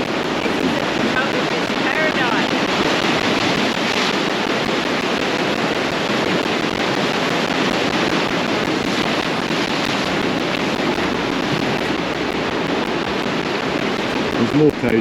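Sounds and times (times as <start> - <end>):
ocean waves washing onto beach: 0.0 - 15.0.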